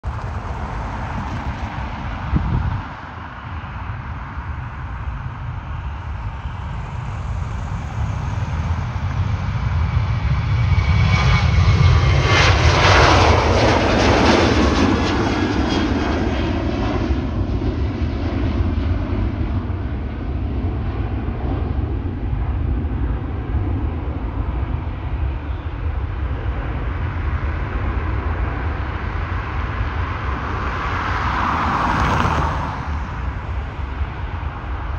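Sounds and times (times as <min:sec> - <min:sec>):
jet airliner taking off: 0:00.0 - 0:34.9.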